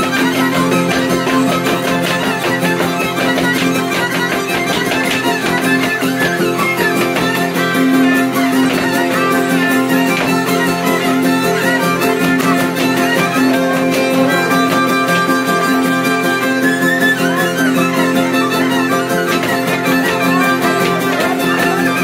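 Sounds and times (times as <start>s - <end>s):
folk fiddle dance tune: 0.0s - 22.0s.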